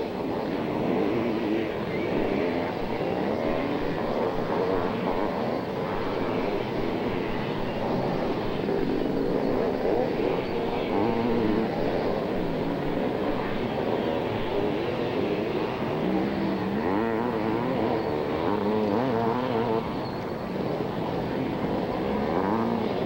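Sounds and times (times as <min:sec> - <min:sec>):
motocross bikes revving: 0:00.3 - 0:23.0.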